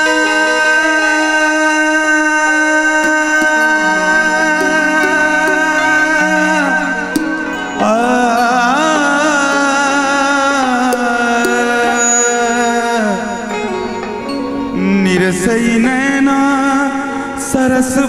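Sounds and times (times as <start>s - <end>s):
instrumental accompaniment: 0.0s - 18.0s
man singing long notes: 0.0s - 18.0s.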